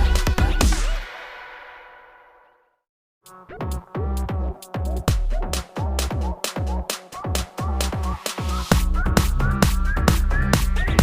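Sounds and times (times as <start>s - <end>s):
electronic dance music: 0.0s - 1.7s, 3.3s - 11.0s.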